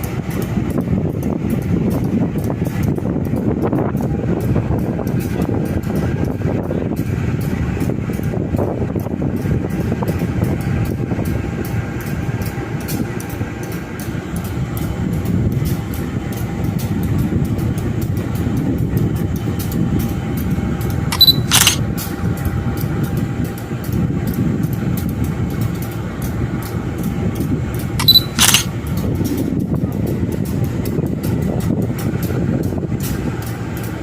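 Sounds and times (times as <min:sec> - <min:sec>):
train rumbling and clicking: 0:00.0 - 0:34.0.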